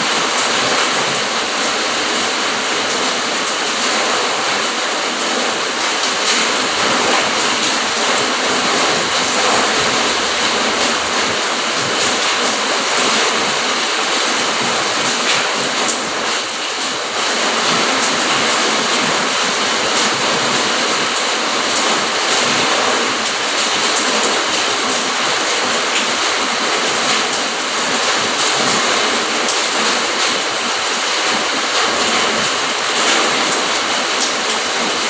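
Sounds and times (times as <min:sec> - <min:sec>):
rain falling: 0:00.0 - 0:35.0
raindrop hits: 0:00.0 - 0:35.0.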